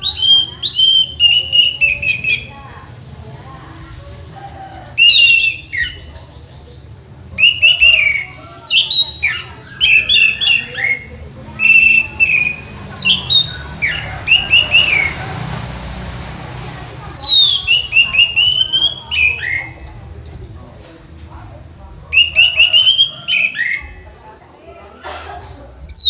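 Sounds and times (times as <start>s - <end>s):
thrush singing: 0.0s - 20.4s, 21.8s - 26.0s.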